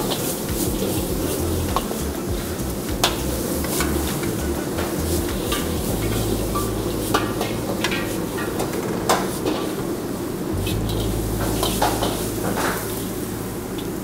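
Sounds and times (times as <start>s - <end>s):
food sizzling: 0.0s - 14.0s
steady low hum: 0.0s - 14.0s.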